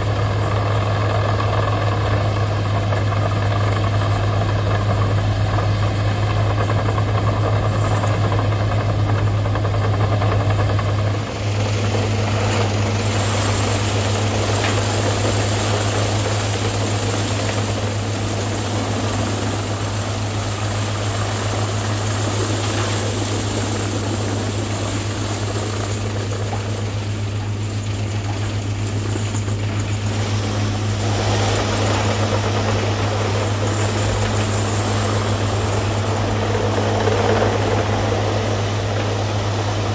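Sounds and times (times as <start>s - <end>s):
diesel engine humming: 0.0s - 39.9s
wood chipper grinding: 0.0s - 39.9s.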